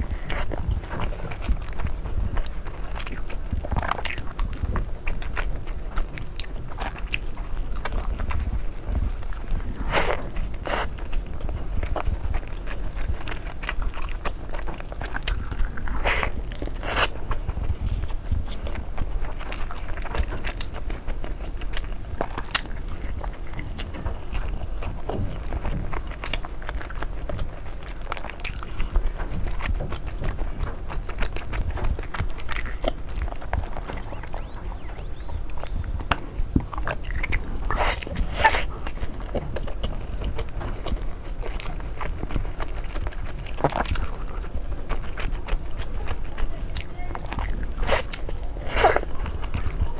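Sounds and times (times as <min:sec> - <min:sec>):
low rumble: 0:00.0 - 0:49.9
person chewing food: 0:00.0 - 0:49.9.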